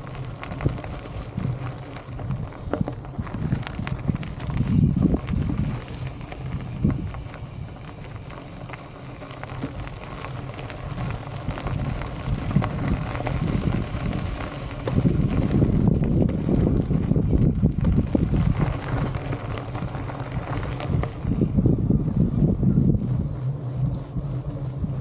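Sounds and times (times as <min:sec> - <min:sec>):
wind buffeting microphone: 0:00.0 - 0:08.7, 0:09.5 - 0:25.0
bicycle tyres crunching on gravel: 0:00.0 - 0:25.0.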